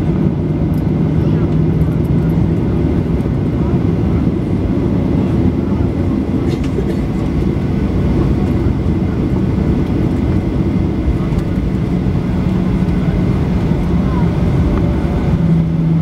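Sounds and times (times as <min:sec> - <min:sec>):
jet engines taxiing in cabin: 0:00.0 - 0:16.0.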